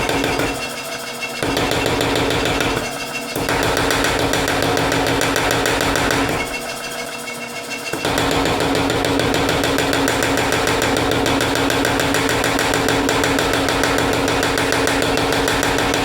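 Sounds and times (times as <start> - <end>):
power hammer striking metal: 0.0 - 7.0, 7.9 - 16.0.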